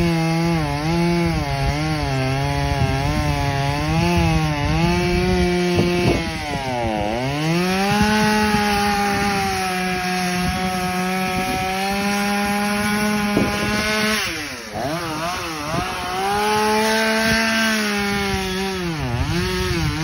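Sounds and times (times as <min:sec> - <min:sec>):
power saw cutting branches: 0:00.0 - 0:20.0.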